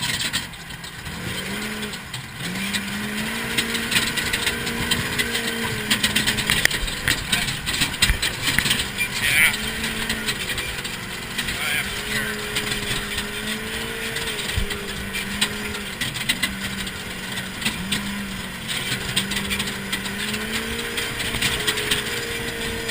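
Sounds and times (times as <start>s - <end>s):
rough-ground noise: 0.0s - 22.9s
vehicle engine running: 0.0s - 22.9s.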